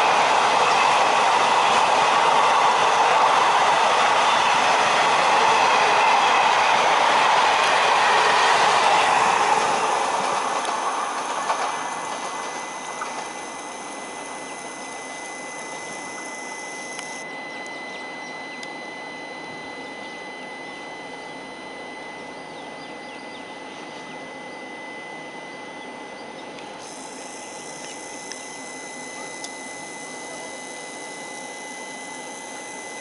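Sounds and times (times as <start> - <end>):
train mechanical hum and whine: 0.0 - 33.0.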